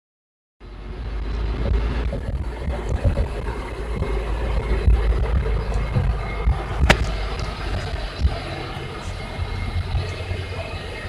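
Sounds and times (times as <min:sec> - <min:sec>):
diesel truck engine running: 0:00.6 - 0:11.0
knocks and rattles on rough road: 0:00.8 - 0:11.0.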